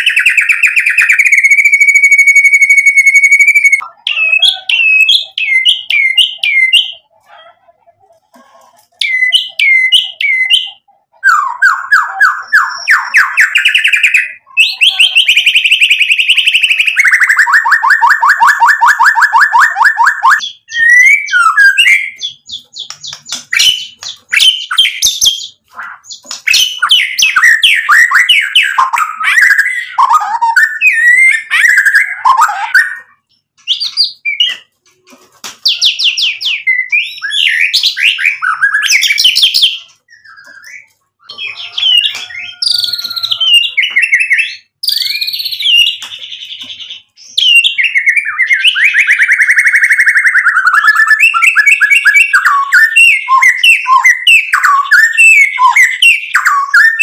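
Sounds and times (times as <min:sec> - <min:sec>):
bird singing loudly: 0:00.0 - 0:07.0, 0:09.0 - 0:34.6, 0:35.7 - 0:57.0.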